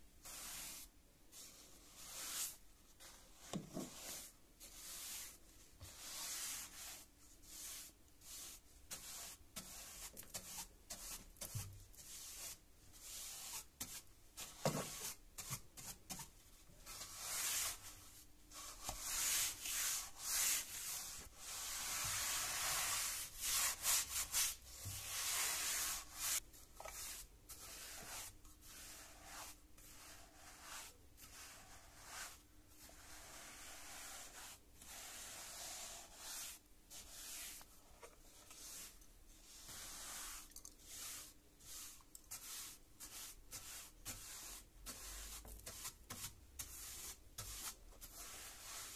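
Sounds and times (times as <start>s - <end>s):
paint brush sweeping wood: 0.2s - 48.9s.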